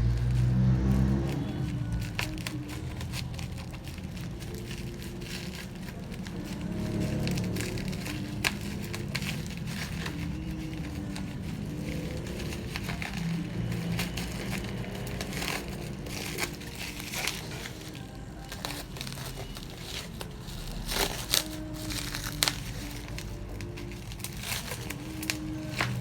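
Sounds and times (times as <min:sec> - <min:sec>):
packaging crinkling: 0:00.0 - 0:26.0.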